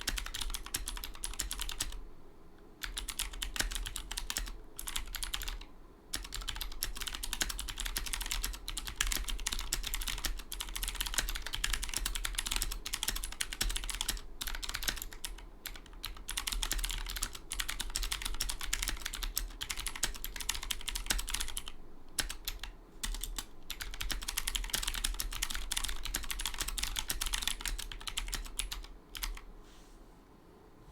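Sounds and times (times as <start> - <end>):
mechanical keyboard typing: 0.0 - 2.0, 2.8 - 29.5.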